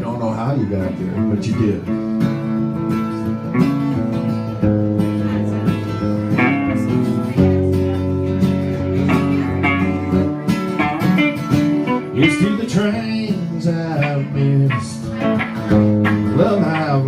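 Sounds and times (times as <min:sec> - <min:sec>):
acoustic guitar strumming chords: 0:00.9 - 0:17.0.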